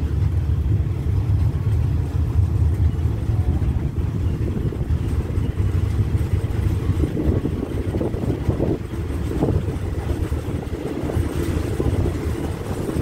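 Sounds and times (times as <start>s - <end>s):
train carriage rumbling on track: 0.0s - 13.0s.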